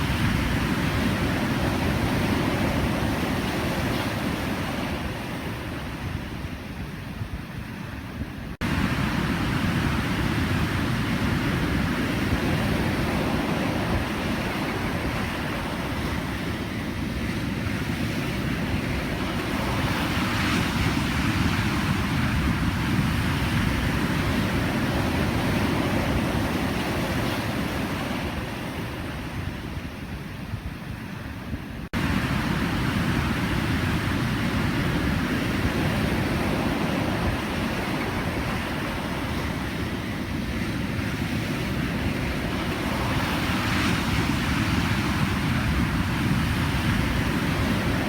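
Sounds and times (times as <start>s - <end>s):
ocean waves breaking: 0.0s - 48.0s.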